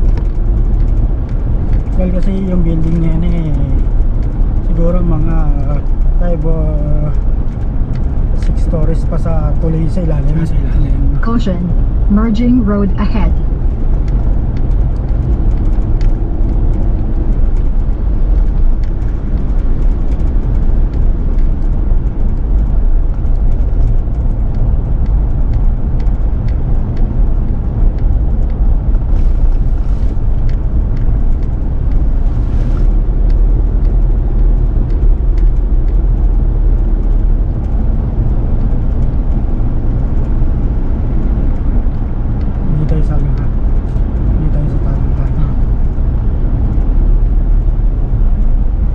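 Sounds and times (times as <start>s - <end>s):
car engine rumble: 0.0s - 48.9s
tyres on the road: 0.0s - 48.9s.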